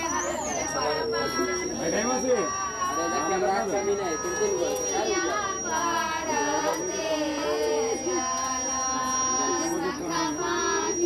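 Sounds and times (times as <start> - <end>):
people talking: 0.0 - 11.0
thin steady high tone: 0.0 - 11.0
voices singing long notes: 0.0 - 11.0.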